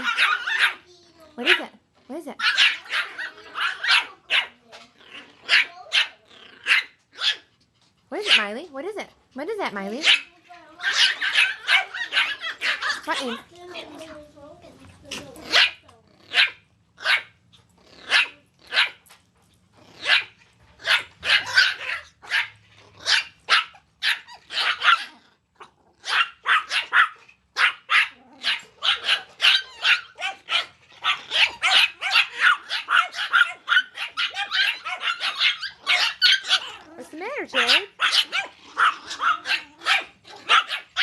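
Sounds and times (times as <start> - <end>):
puppies yapping: 0.0 - 1.7, 2.4 - 8.5, 9.9 - 14.2, 15.0 - 19.2, 19.8 - 41.0.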